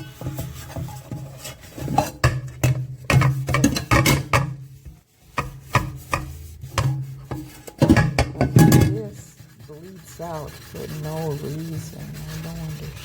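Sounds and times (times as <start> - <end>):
sponge scrubbing a pot: 0.0 - 13.0.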